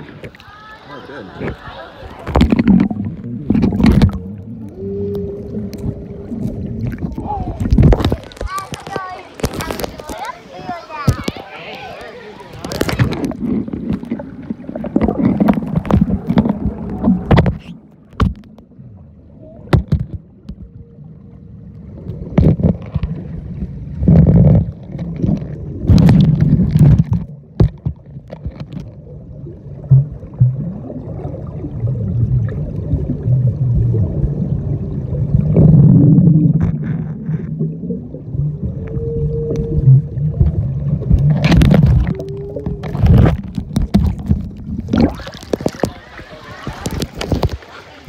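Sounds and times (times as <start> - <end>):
muffled underwater rumbling: 0.0 - 48.0.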